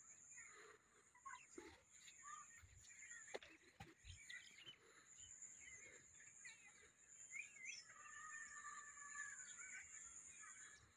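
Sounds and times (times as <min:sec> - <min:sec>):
faint birds chirping: 0:00.0 - 0:10.9.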